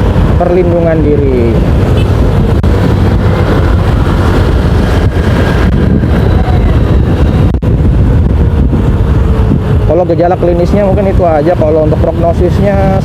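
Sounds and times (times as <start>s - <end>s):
motorcycle engine running: 0.0s - 13.0s
road noise: 0.0s - 13.0s
wind rushing over microphone: 0.0s - 13.0s.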